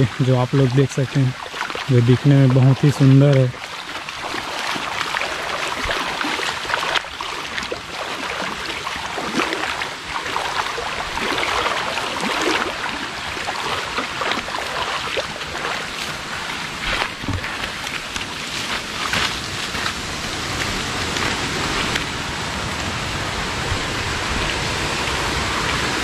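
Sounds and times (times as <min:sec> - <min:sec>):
feet wading through muddy water: 0:00.0 - 0:26.0.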